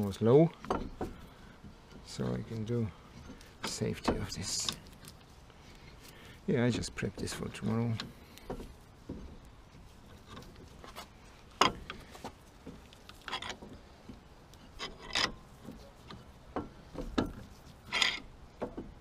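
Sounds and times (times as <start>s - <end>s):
hand tools scraping and clicking: 0.0s - 19.0s.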